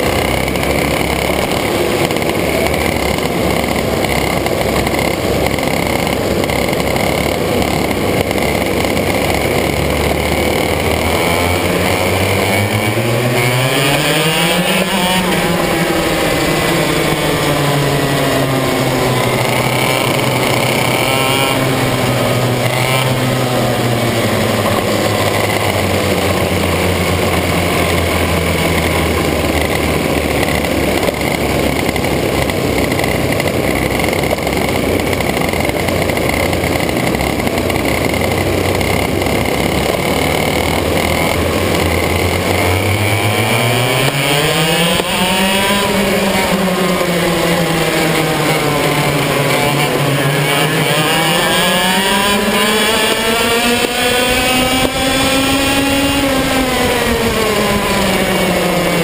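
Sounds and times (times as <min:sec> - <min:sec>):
kart engine revving: 0:00.0 - 0:59.0
other karts: 0:00.0 - 0:59.0.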